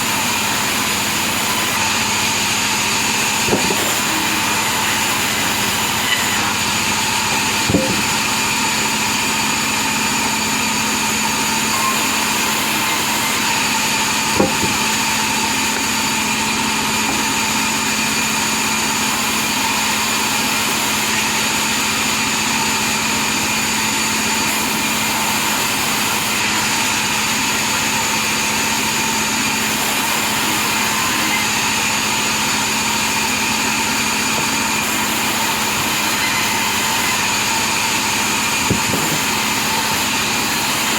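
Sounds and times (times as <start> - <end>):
sawmill motor hum and whine: 0.0 - 40.9.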